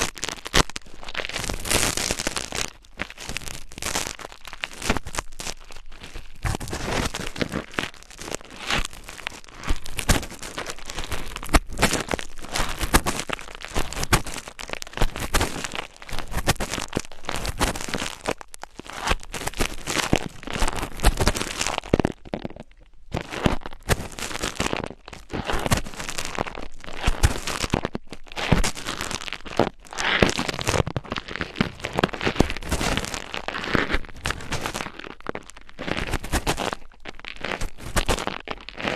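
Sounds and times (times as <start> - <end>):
scratching and crinkling: 0.0 - 38.9.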